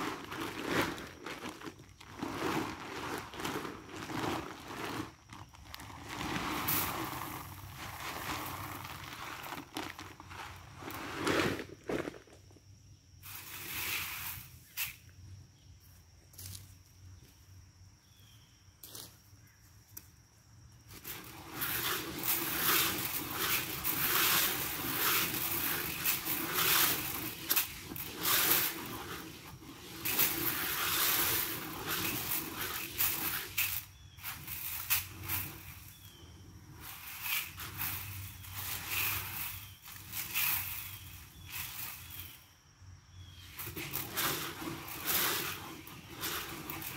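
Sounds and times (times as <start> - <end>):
grain pouring into metal hopper: 0.0 - 12.2, 13.2 - 14.6, 20.9 - 42.4, 43.4 - 46.9.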